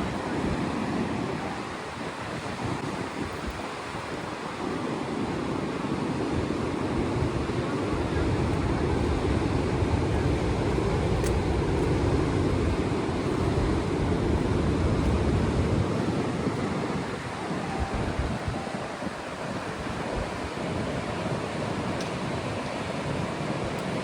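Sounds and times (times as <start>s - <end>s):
ocean surf washing on shore: 0.0s - 24.0s
wind rumbling on microphone: 0.0s - 24.0s.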